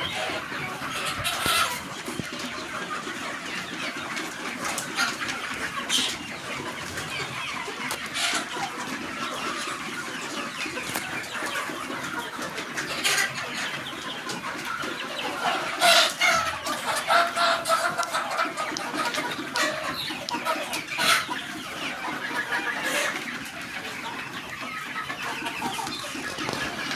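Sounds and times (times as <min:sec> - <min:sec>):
chickens clucking and calling: 0:00.0 - 0:26.9.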